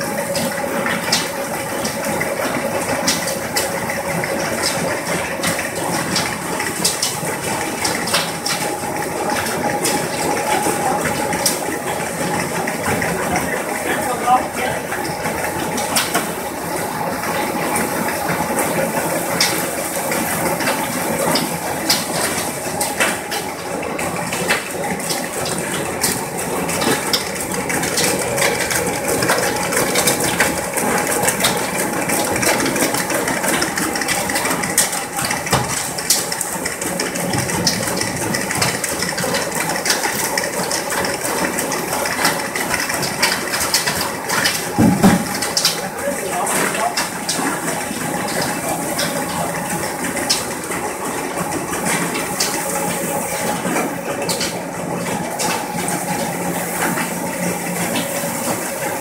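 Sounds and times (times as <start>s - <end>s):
rush of water and machinery: 0.0s - 59.0s.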